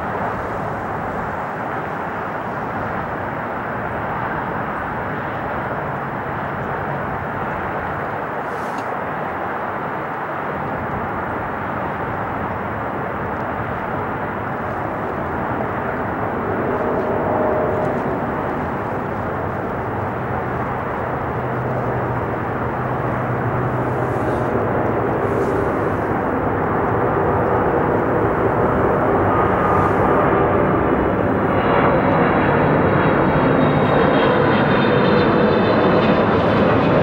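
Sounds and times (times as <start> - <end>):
jet engine rumble: 0.0 - 37.0.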